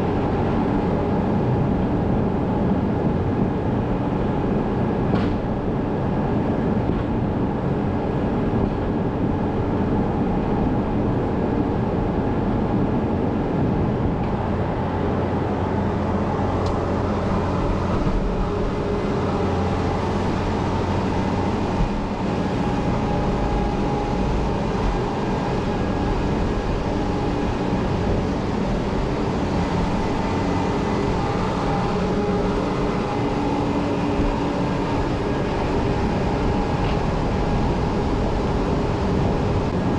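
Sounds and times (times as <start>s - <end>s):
farm machinery rumbling: 0.0s - 39.9s.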